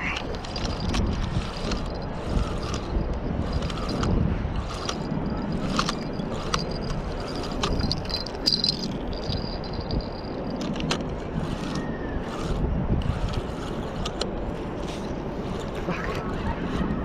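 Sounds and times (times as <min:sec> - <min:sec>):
small reel clicks: 0:00.0 - 0:15.8
wind rumble on microphone: 0:00.0 - 0:17.0
fishing reel whirring: 0:00.2 - 0:17.0.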